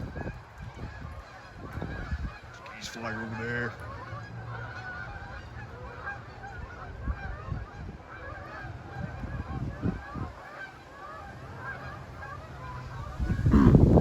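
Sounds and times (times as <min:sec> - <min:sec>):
geese honking: 0:00.0 - 0:14.0
wind rumble on microphone: 0:00.0 - 0:14.0.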